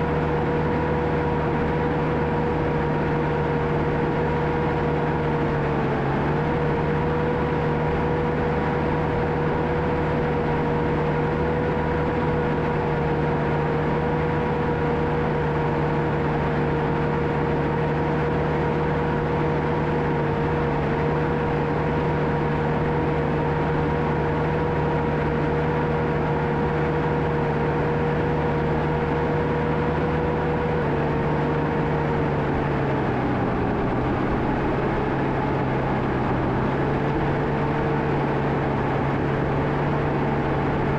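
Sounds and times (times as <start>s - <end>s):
diesel engine running: 0.0s - 40.9s
steady whine: 0.0s - 40.9s.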